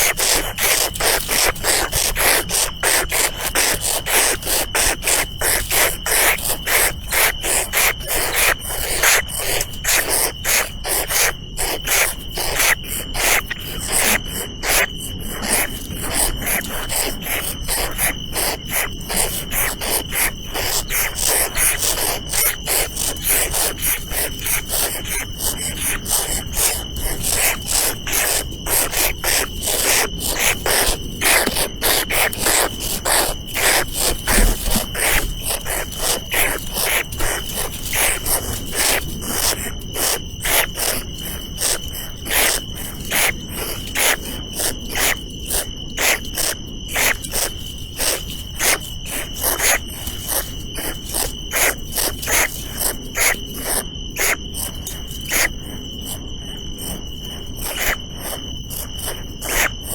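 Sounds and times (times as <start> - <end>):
insects stridulating: 0.0 - 59.9.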